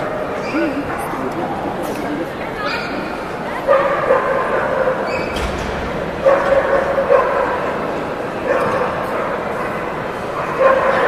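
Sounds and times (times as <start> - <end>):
background chatter: 0.0 - 11.0.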